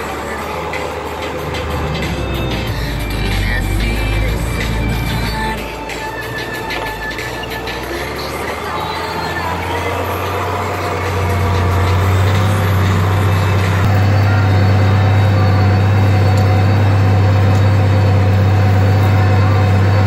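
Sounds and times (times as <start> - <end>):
tractor diesel engine droning: 0.0 - 20.0.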